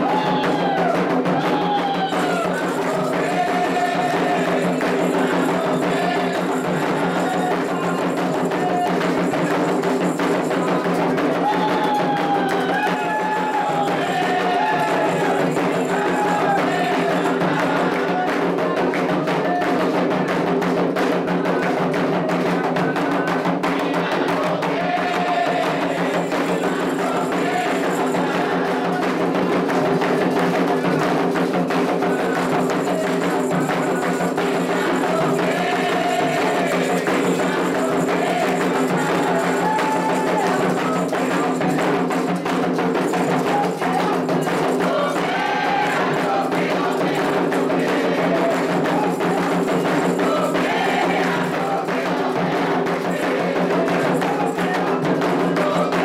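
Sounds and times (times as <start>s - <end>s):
voices singing: 0.0s - 20.4s, 21.2s - 56.0s
hand drums playing fast rhythm: 0.0s - 56.0s.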